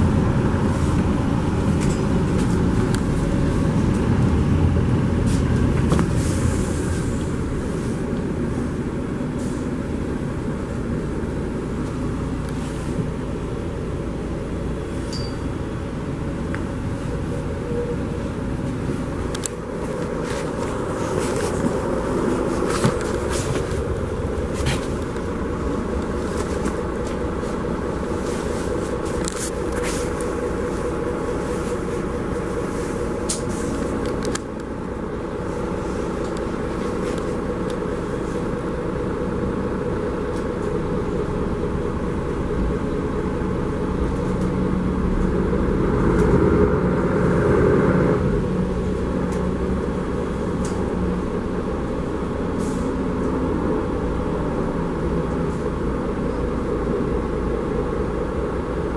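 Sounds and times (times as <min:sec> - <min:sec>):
bus engine drone: 0:00.0 - 0:58.9
tyres on road: 0:00.0 - 0:58.9.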